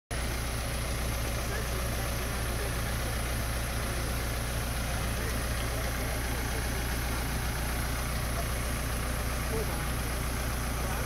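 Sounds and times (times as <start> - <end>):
diesel engine running: 0.1 - 11.0.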